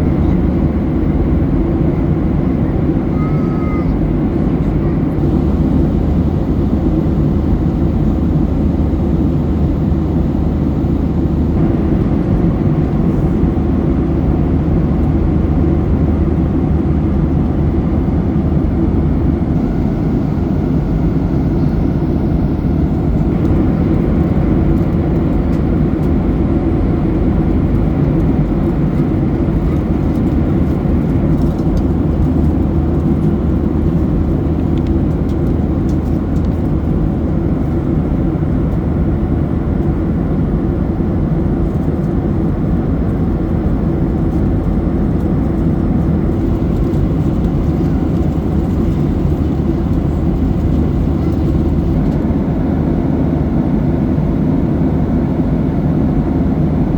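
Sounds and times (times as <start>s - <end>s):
airplane cabin drone: 0.0s - 56.9s.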